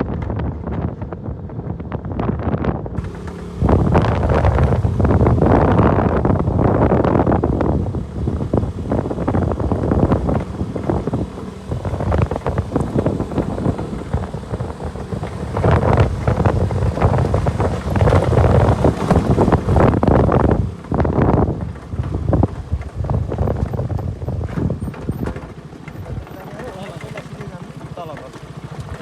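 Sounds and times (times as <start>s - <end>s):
motorcycle running: 0.0s - 29.0s
wind buffeting microphone: 0.0s - 29.0s.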